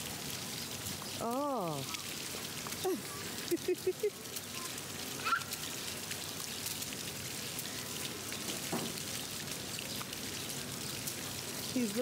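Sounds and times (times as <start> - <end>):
water jets spraying and pattering: 0.0 - 12.0.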